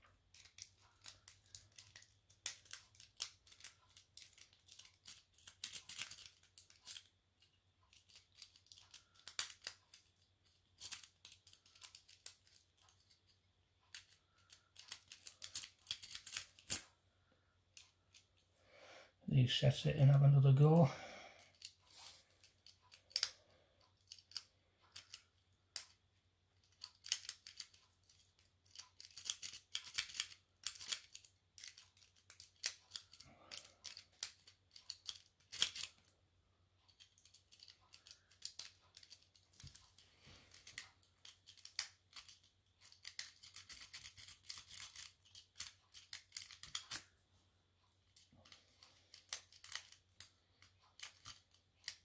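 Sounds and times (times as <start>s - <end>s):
lock pick clicking and scraping: 0.3s - 7.1s, 7.9s - 13.3s, 13.9s - 16.9s, 22.4s - 23.4s, 24.0s - 26.0s, 26.6s - 36.1s, 36.9s - 47.1s, 48.1s - 52.0s.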